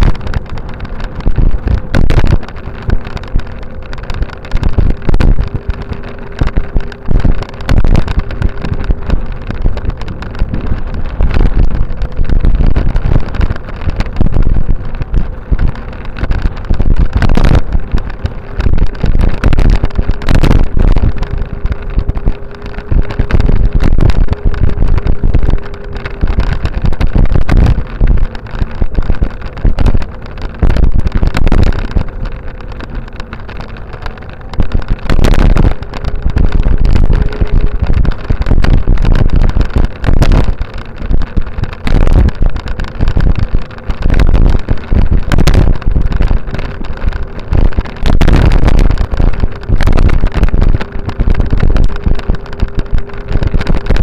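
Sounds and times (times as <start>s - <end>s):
faint steady hum: 0.0s - 54.0s
wind buffeting microphone: 0.0s - 54.0s.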